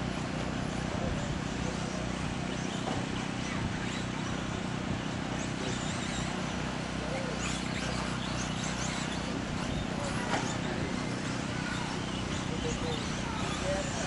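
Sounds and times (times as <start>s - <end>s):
electric motors whining: 0.0s - 14.0s
steady low hum: 0.0s - 14.0s.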